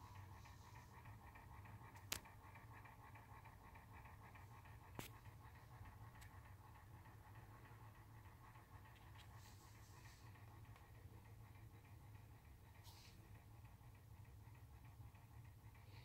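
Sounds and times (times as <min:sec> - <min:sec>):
faint low room hum: 0:00.0 - 0:16.0.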